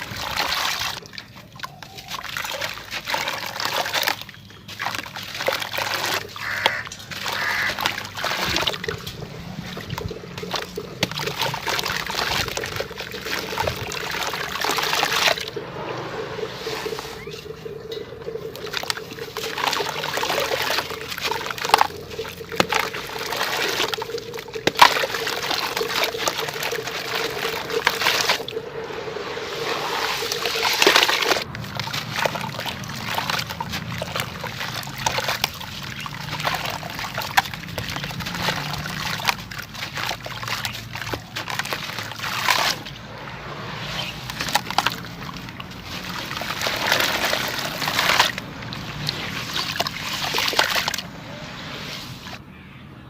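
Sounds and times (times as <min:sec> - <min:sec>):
wet cement chunks crumbling: 0:00.0 - 0:15.6, 0:16.8 - 0:28.6, 0:29.6 - 0:43.1, 0:43.7 - 0:51.1
water sloshing and trickling: 0:00.0 - 0:52.6.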